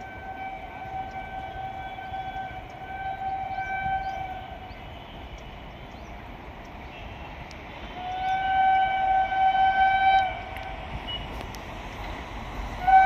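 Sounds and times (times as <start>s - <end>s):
distant locomotive horn blast: 0.0s - 6.0s, 6.9s - 11.5s, 12.7s - 13.0s.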